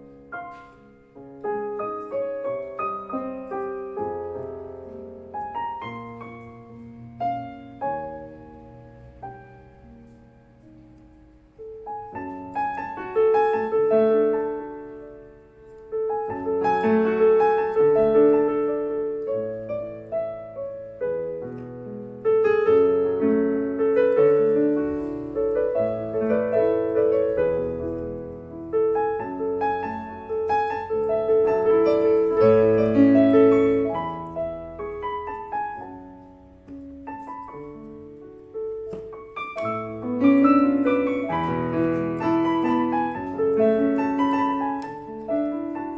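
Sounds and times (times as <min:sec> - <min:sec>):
keyboard piano melody: 0:00.0 - 0:45.9.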